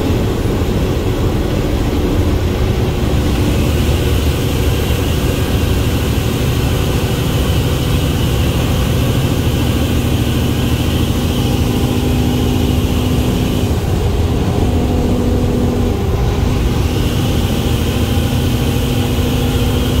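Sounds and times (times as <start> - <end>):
truck diesel engine drone: 0.0 - 20.0.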